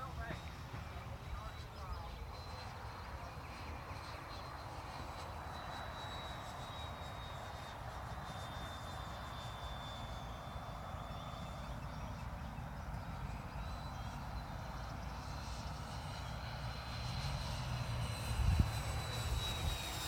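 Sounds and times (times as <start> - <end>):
model jet fan whine: 0.0 - 20.0.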